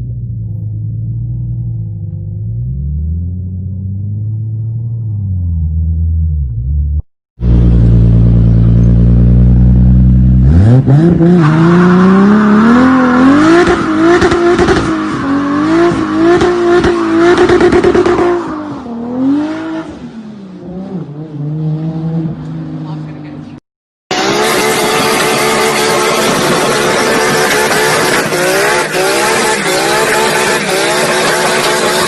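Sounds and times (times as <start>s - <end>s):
car engine revving: 0.3s - 32.0s.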